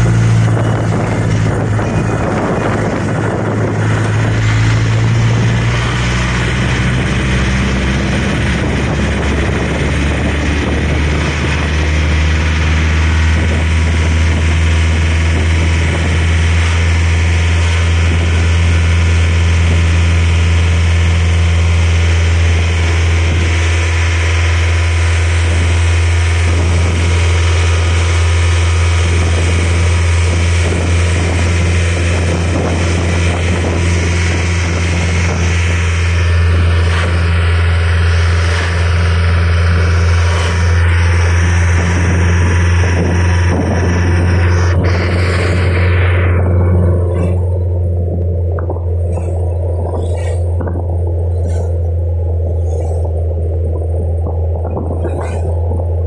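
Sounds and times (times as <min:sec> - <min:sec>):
loud low engine drone: 0:00.0 - 0:56.0.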